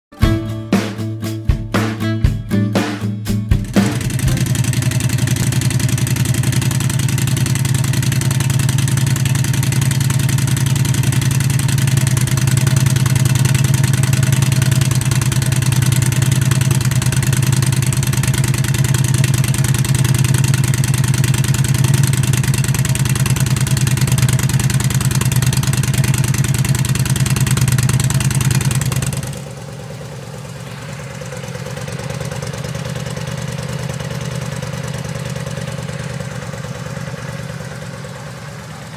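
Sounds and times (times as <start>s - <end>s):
motorcycle engine idling: 3.5s - 38.9s.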